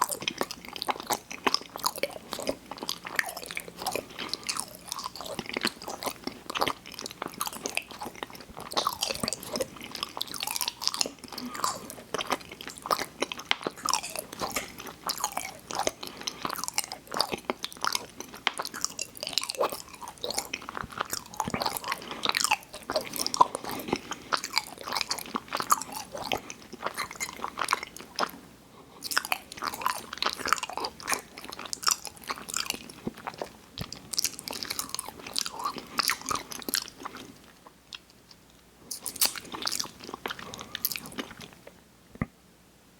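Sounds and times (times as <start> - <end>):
chewing sweets: 0.0 - 41.8.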